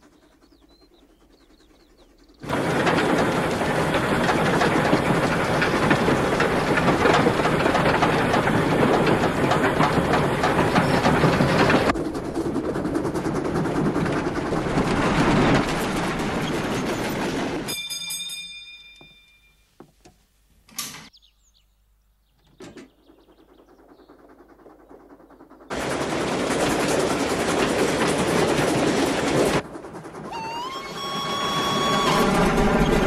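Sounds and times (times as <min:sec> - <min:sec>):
steam train rushing: 0:00.0 - 0:18.1, 0:22.6 - 0:33.0.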